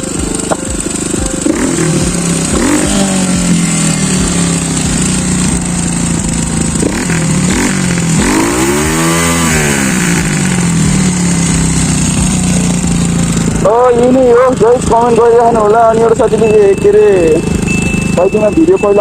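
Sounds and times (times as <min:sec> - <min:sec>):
dirt bike engine revving: 0:00.0 - 0:19.0
dirt bike idling: 0:00.0 - 0:19.0.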